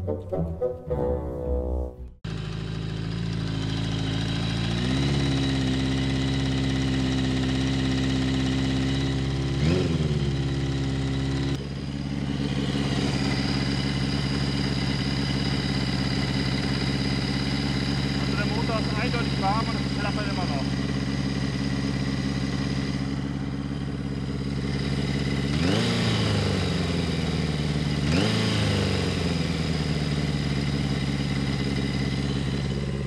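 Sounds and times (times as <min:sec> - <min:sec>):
motorcycle engine idling with rattle: 0:02.3 - 0:33.0.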